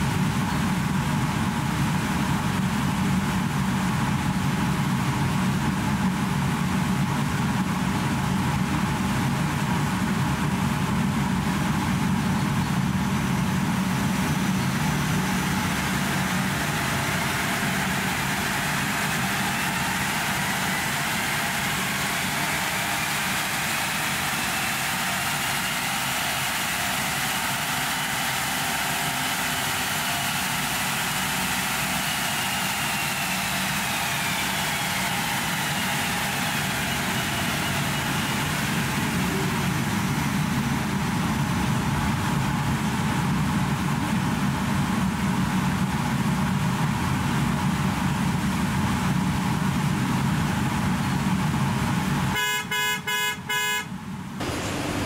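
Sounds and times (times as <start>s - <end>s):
faint rising whine of spinning wheels: 0.0s - 52.2s, 54.4s - 55.0s.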